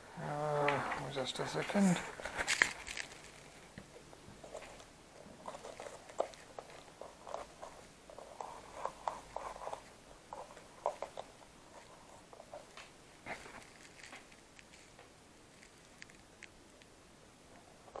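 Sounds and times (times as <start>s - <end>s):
wires and connectors rustling: 0.0s - 17.0s.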